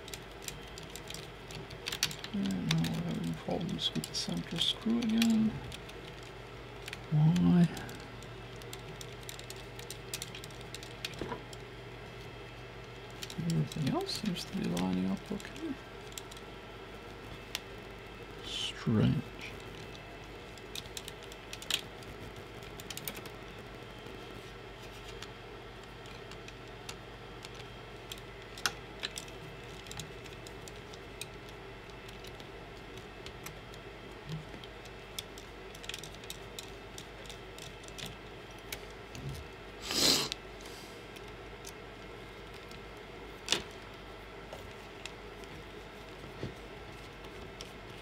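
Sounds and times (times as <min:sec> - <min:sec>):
wires and connectors rattling: 0:00.0 - 0:39.6, 0:41.1 - 0:48.0
steady low hum: 0:00.0 - 0:48.0.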